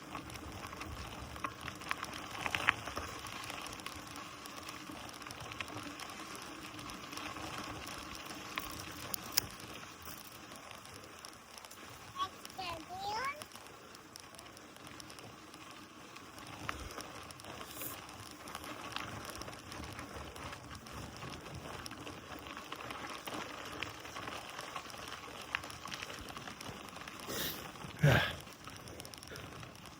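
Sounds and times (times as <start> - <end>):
bike tyres rolling on gravel: 0.0 - 29.9.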